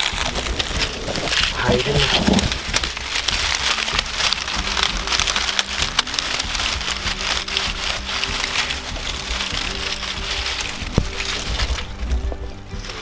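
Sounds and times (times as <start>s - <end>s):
hand rustling dry leaves: 0.0s - 13.0s.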